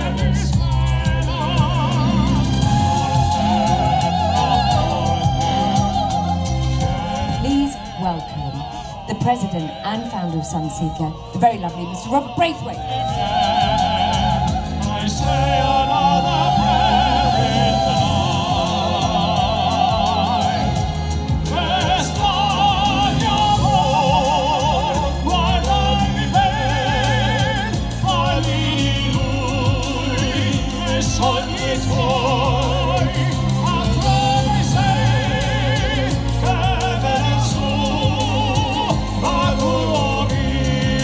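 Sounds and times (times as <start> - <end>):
instrumental accompaniment with bass: 0.0 - 41.0
vocal group singing operatically: 0.0 - 41.0.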